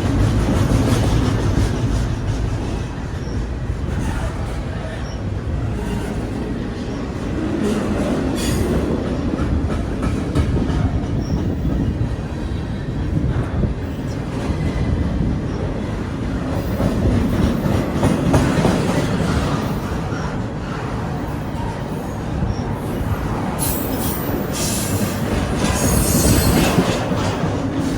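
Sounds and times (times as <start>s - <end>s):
train cars rumbling past: 0.0s - 27.9s.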